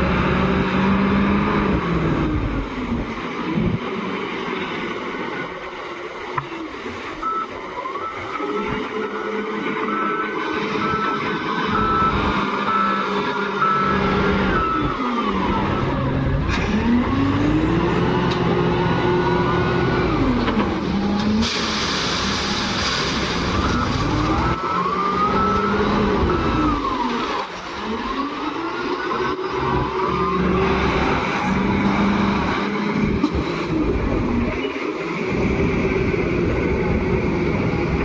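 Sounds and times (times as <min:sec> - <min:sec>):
diesel engine revving: 0:00.0 - 0:05.4, 0:08.0 - 0:38.0.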